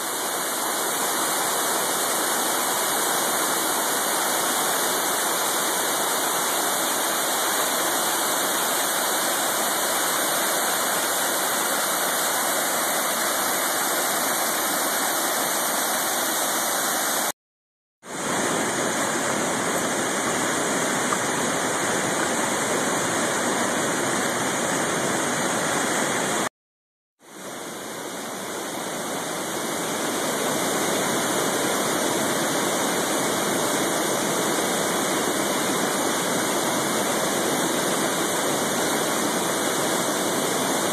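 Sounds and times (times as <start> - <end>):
waterfall rushing: 0.0 - 17.3, 18.1 - 26.5, 27.3 - 40.9.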